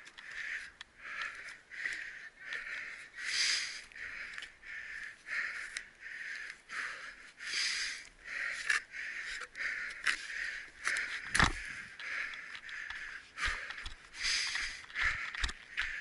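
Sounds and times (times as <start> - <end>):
faint clicks: 0.0 - 3.0, 3.8 - 6.7, 8.0 - 16.0
person breathing hard: 0.0 - 16.0.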